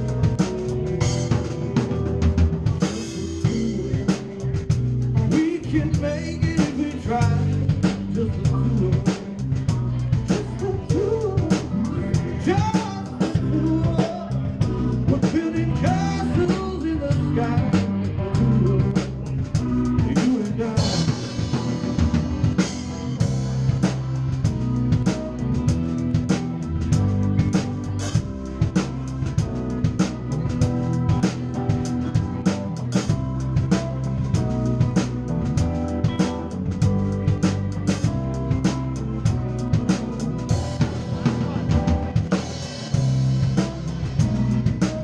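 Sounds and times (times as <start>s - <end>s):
drum kit: 0.0s - 45.0s
live band playing: 0.0s - 45.0s.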